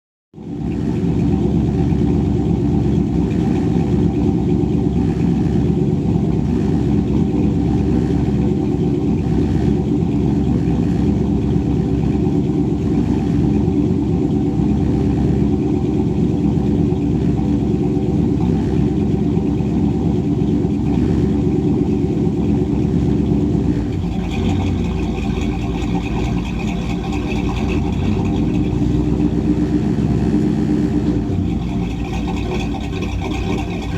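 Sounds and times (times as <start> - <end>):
pickup engine idling: 0.4 - 33.9.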